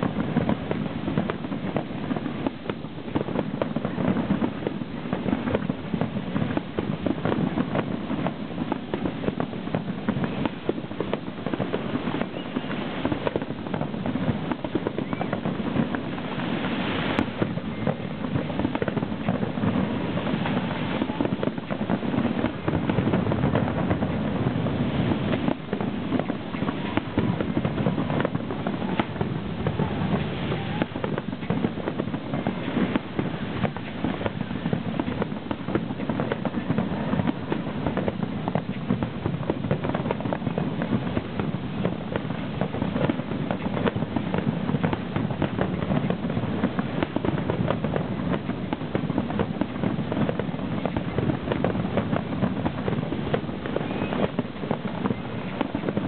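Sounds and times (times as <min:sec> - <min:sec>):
fireworks popping and banging: 0:00.0 - 0:56.0.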